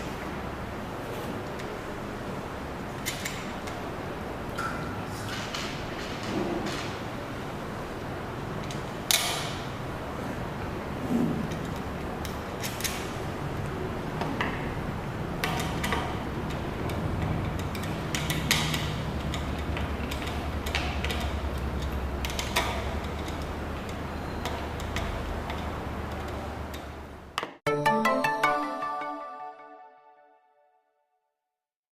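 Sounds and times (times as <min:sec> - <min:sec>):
fan blades clicking and knocking: 0:01.3 - 0:27.4.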